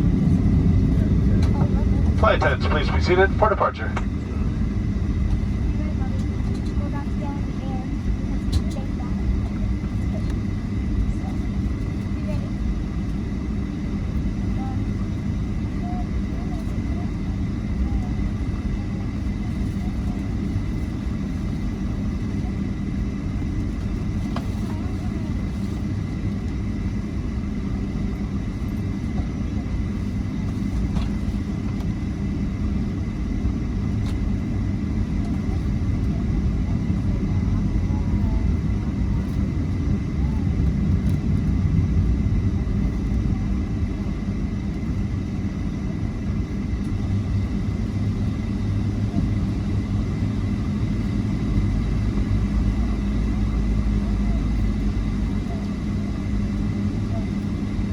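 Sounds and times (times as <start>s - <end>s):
aircraft engine rumble: 0.0s - 57.9s
faint steady whine: 0.0s - 57.9s.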